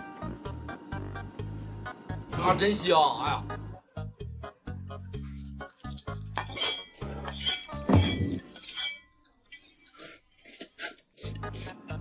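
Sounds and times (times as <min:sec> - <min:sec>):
background music: 0:00.0 - 0:09.0, 0:11.1 - 0:12.0.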